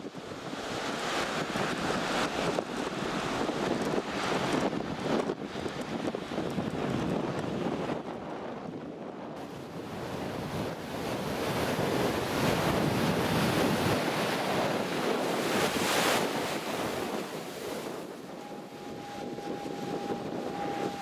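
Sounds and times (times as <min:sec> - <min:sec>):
surf washing onto beach: 0:00.0 - 0:08.0, 0:09.4 - 0:21.0
wind buffeting microphone: 0:00.0 - 0:21.0.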